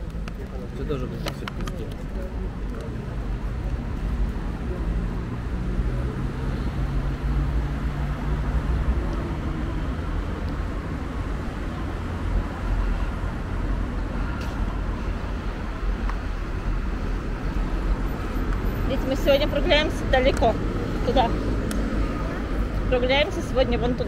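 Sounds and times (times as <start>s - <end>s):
street traffic noise: 0.0s - 24.0s
vehicle engine hum: 0.0s - 24.0s.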